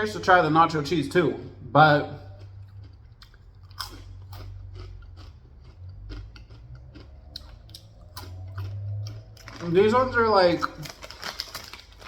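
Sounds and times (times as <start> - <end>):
crunching and chewing chips: 1.8 - 12.0.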